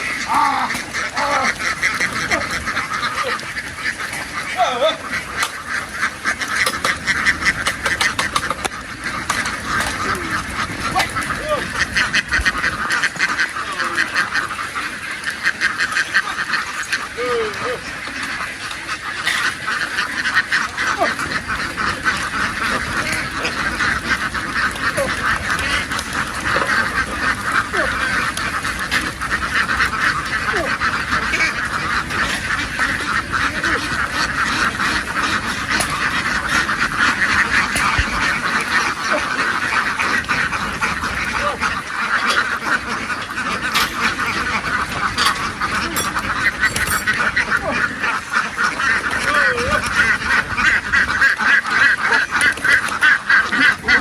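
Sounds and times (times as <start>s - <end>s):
flock of ducks quacking: 0.0s - 54.0s.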